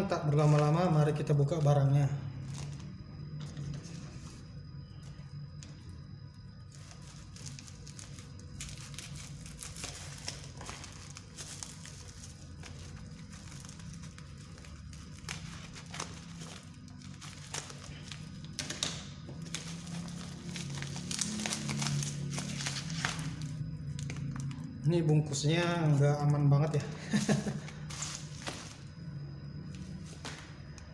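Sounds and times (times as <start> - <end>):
faint background music: 0.0 - 30.9
packaging crinkling and rustling: 0.1 - 4.5, 6.7 - 29.0, 29.7 - 30.9.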